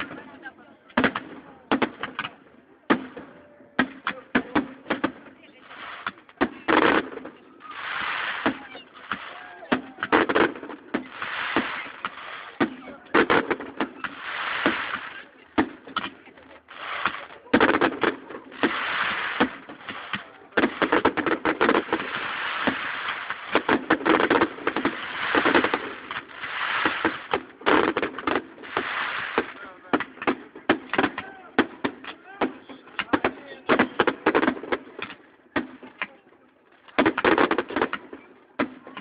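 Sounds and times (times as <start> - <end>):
fireworks bangs: 0.0 - 36.2, 36.8 - 39.0.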